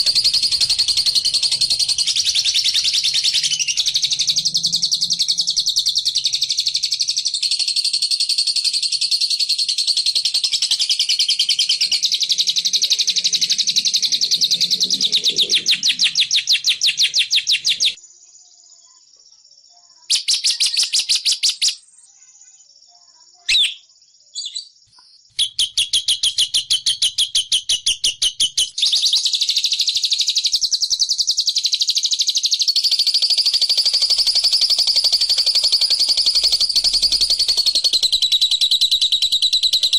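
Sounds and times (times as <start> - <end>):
recorded bird chattering trill: 0.0 - 39.9.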